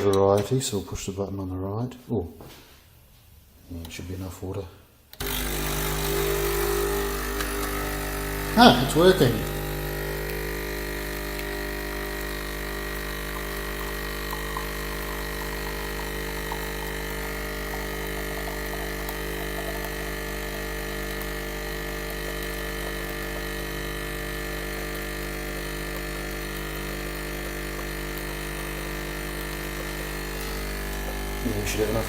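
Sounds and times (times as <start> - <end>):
coffee machine pump buzzing: 5.1 - 32.0.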